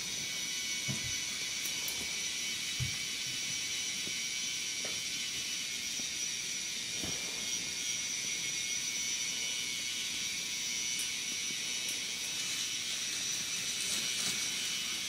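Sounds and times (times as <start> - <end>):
toy motor whirring: 0.0 - 15.0.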